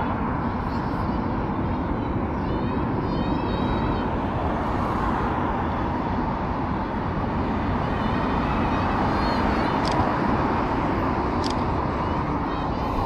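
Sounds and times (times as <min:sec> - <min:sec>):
wind noise while cycling: 0:00.0 - 0:13.0.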